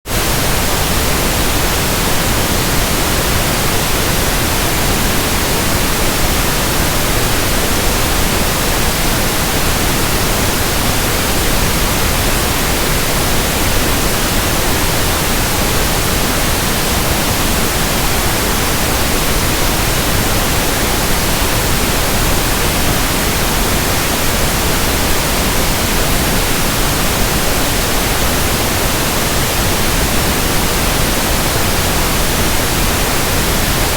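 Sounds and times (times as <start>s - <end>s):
pink noise hiss: 0.1s - 33.9s.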